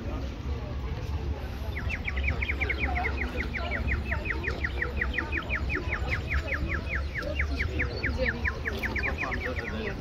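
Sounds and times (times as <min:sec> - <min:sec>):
bird chirping rapidly: 0:01.7 - 0:10.0.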